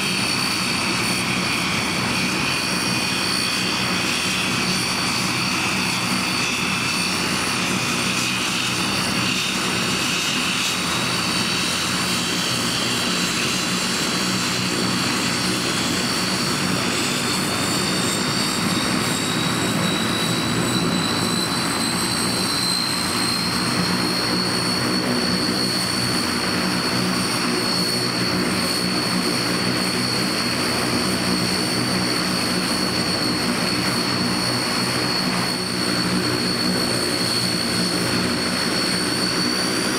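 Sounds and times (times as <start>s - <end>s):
high turbine whine: 0.0s - 39.9s
propeller drone: 0.0s - 39.9s.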